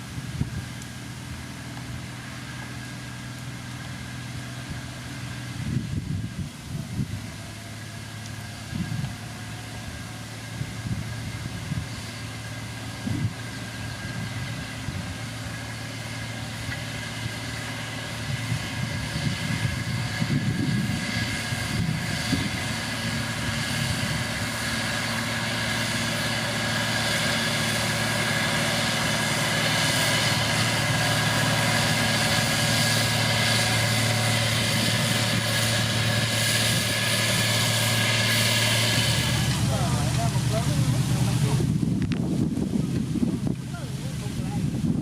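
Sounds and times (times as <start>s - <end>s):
heavy machinery diesel engine: 0.0s - 45.0s.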